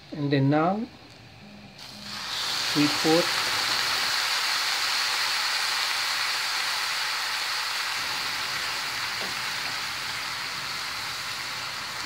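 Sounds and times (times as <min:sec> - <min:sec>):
rice sizzling in a frying pan: 0:01.8 - 0:12.0.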